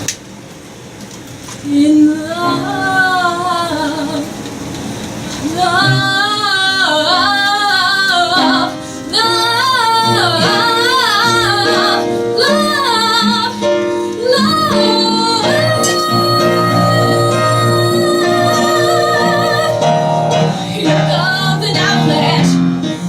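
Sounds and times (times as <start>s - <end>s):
woman singing vocal runs: 1.6s - 4.4s, 5.4s - 23.0s
instrumental backing: 2.4s - 23.0s.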